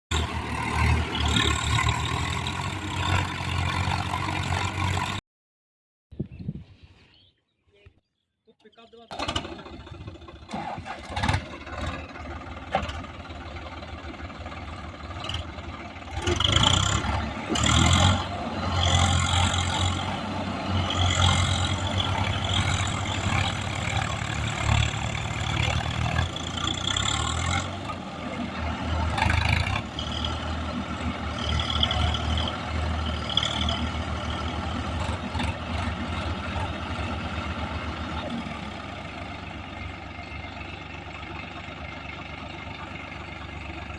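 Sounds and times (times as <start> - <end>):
diesel tractor engine revving: 0.1 - 5.2, 9.1 - 43.9.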